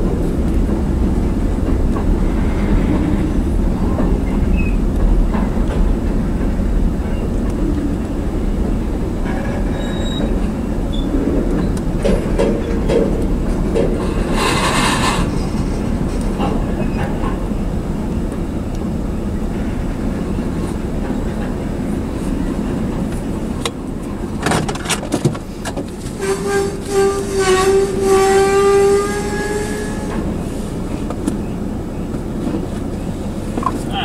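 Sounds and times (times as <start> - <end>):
freight train cars rumbling: 0.0 - 34.0.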